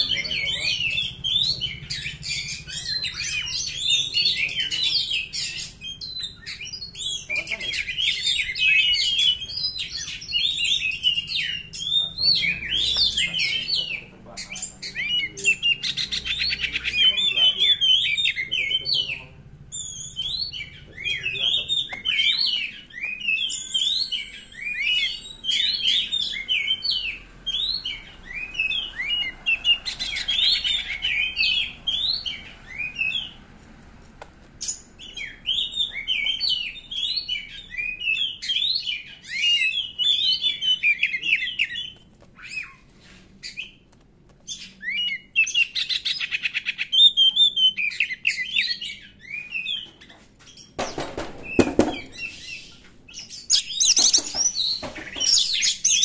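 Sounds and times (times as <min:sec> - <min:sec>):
bird singing whistled chirps: 0:00.0 - 0:33.4, 0:34.7 - 0:42.8, 0:44.5 - 0:50.0.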